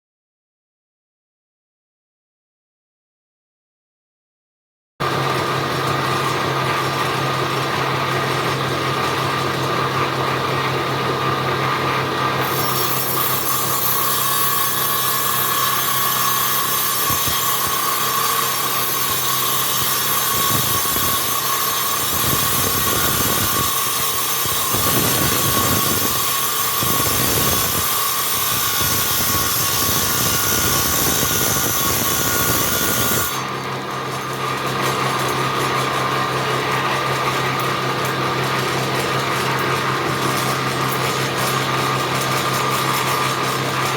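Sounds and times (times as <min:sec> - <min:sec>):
power tool cutting wood: 0:05.0 - 0:43.9.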